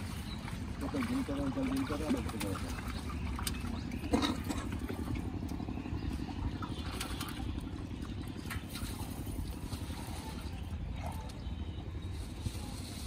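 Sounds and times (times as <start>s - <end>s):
water splashing and sloshing: 0.0s - 13.0s
steady low rumble: 2.2s - 13.0s.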